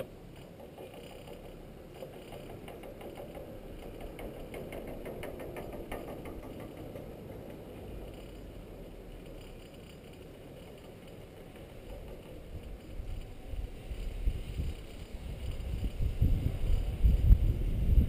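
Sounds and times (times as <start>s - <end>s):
chairlift mechanical clatter: 0.0s - 18.0s.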